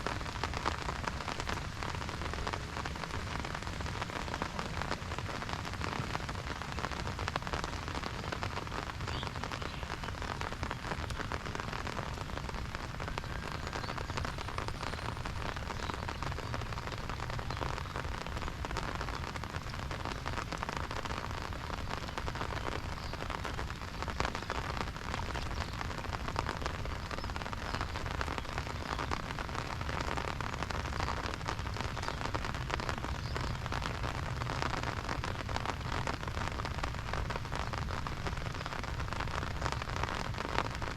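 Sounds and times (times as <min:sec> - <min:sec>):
rain beating on an umbrella: 0:00.0 - 0:40.9.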